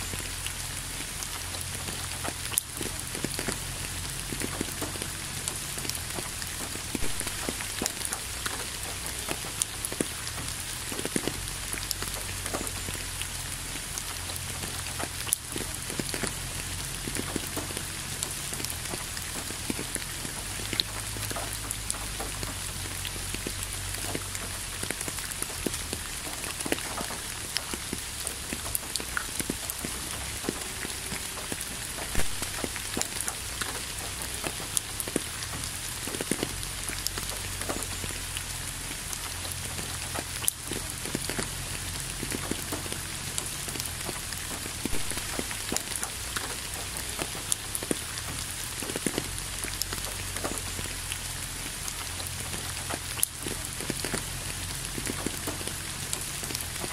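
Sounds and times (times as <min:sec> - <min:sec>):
raindrops striking close by: 0:00.0 - 0:56.9
steady rain hiss: 0:00.0 - 0:56.9.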